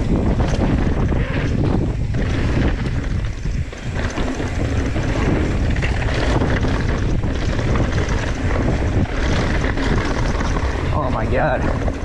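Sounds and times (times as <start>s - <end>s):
bike knocks and rattles: 0.0s - 12.0s
bike tyres rumbling on dirt: 0.0s - 12.0s
wind on microphone: 0.0s - 12.0s.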